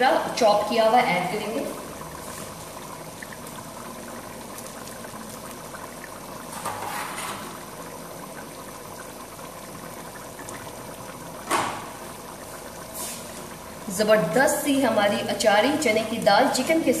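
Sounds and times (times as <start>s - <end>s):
pot bubbling at a boil: 0.0s - 17.0s.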